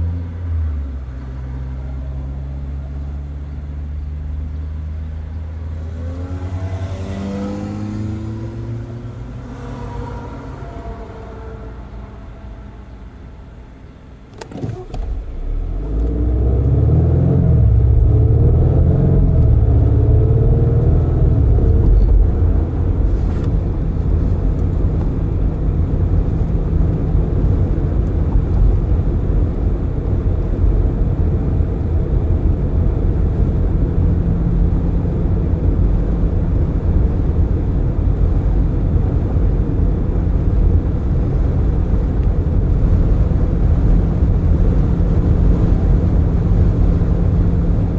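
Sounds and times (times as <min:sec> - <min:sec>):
car engine accelerating: 0:00.0 - 0:47.9
tyre and road noise: 0:00.0 - 0:47.9.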